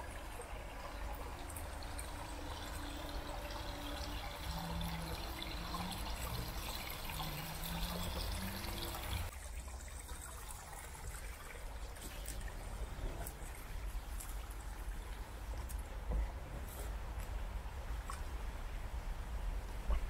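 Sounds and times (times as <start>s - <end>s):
brook trickling over stones: 0.0s - 16.1s.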